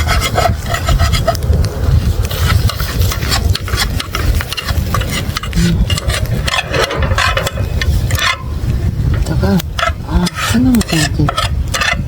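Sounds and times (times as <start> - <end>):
low rumble: 0.0 - 12.0
spatula scraping eggs in pan: 0.0 - 12.0.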